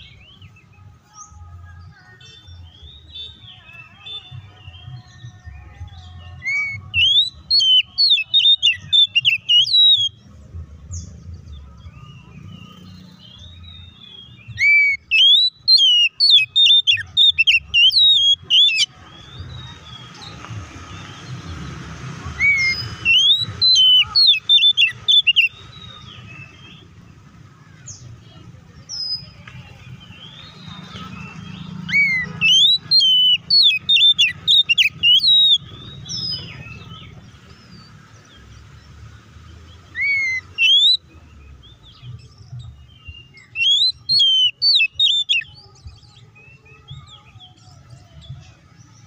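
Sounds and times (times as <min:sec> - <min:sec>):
bird singing whistles and chatter: 0:02.1 - 0:49.0.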